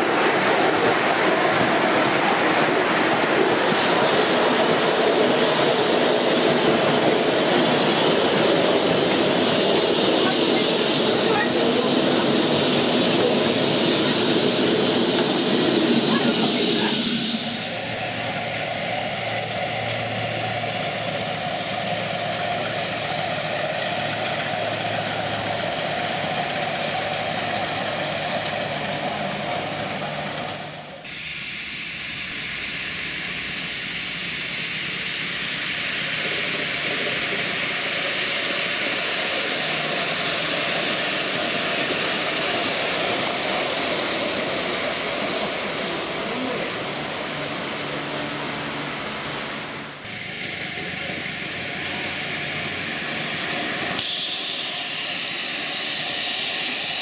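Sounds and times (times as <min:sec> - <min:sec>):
steam locomotive running: 0:00.0 - 0:57.0
steam hissing: 0:00.1 - 0:28.3, 0:31.0 - 0:57.0.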